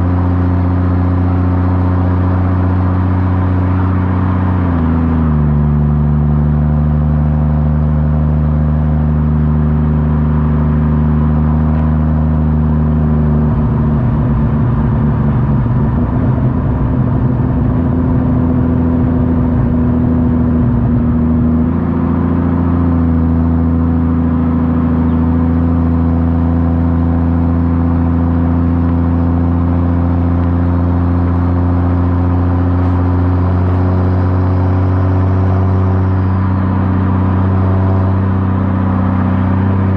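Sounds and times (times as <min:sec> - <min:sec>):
car exhaust crackling burble: 0:00.0 - 0:39.9.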